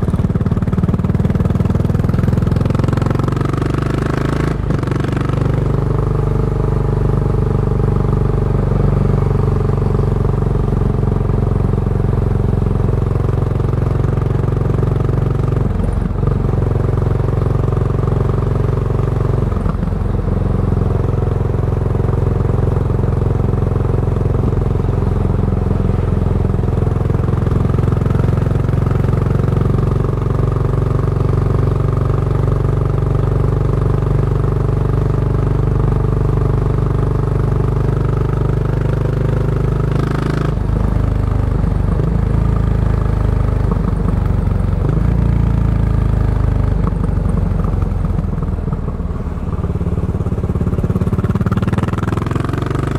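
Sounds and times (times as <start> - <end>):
motorcycle engine exhaust: 0.0 - 52.9.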